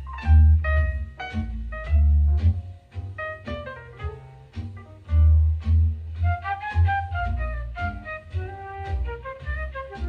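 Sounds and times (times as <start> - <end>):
jazz-pop music through speaker: 0.0 - 10.0.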